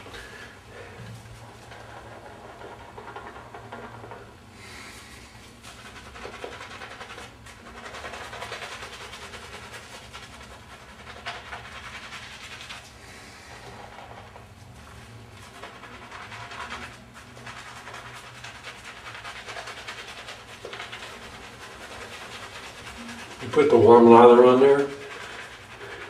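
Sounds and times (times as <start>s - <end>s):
steady low hum: 0.0s - 26.0s
shaving brush swishing lather: 4.7s - 26.0s.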